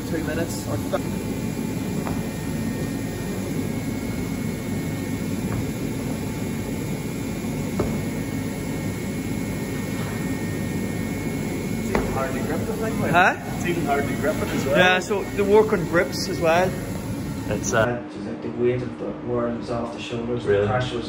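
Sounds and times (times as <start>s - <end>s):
low mechanical drone: 0.0s - 17.9s.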